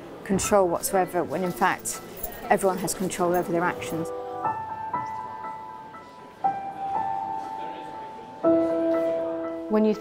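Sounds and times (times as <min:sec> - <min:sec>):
soft music of ringing notes: 0:01.7 - 0:10.0.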